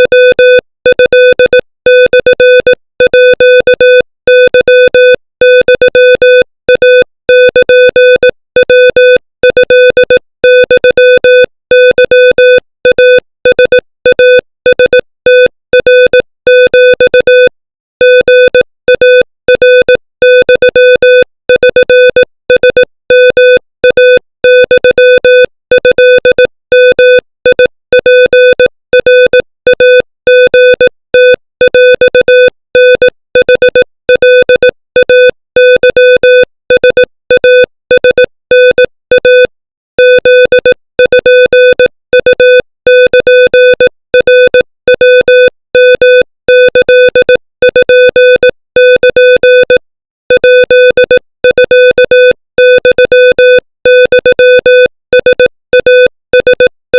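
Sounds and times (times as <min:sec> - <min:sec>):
morse code beeps: 0:00.0 - 0:56.8.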